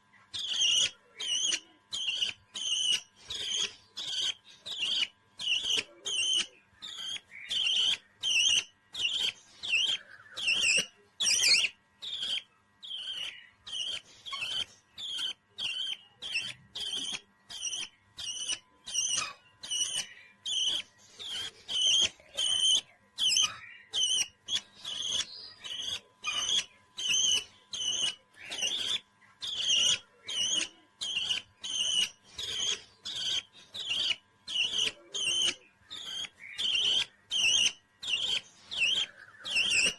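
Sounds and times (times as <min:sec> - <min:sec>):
parrot chirping: 0:00.2 - 0:39.9.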